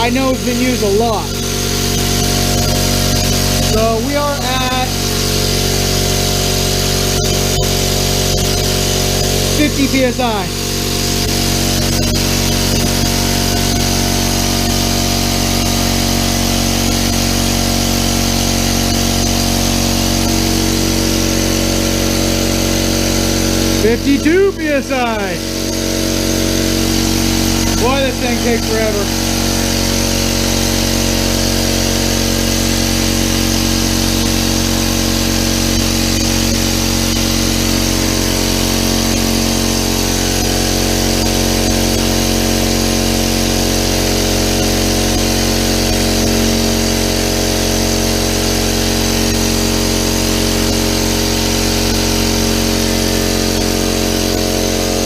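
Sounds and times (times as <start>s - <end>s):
electric air compressor running: 0.0s - 55.0s.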